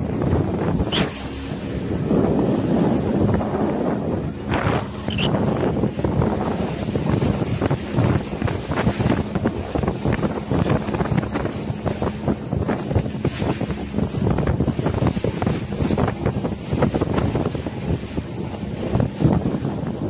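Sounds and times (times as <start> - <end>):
boat engine humming: 0.0 - 20.0
water rushing along hull: 0.0 - 20.0
wind buffeting microphone: 0.0 - 20.0.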